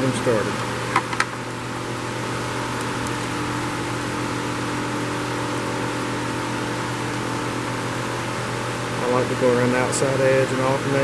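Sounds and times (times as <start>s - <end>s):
electric fan running: 0.0s - 11.0s.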